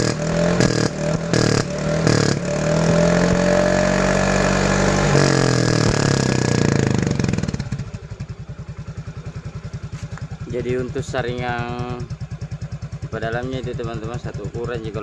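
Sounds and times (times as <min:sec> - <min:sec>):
scooter engine revving and idling: 0:00.0 - 0:15.0.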